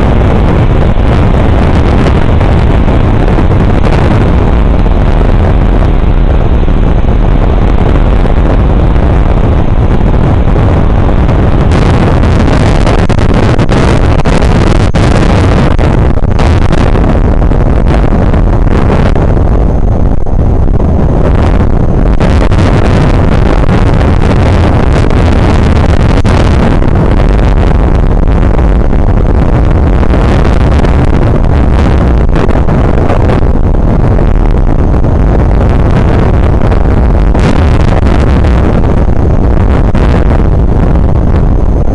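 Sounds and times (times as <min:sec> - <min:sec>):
strong wind buffeting microphone: 0:00.0 - 0:41.9.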